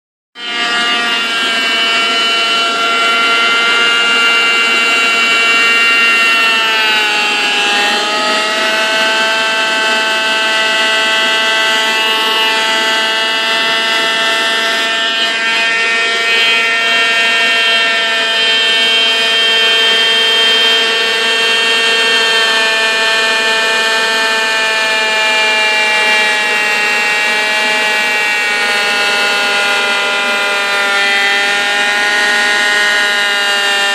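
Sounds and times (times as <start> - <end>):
vacuum cleaner motor whining: 0.4 - 33.9.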